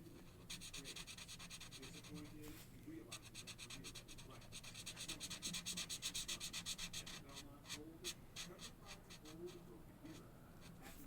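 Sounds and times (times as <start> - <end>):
marker scratching on paper: 0.2 - 2.4, 3.1 - 11.0.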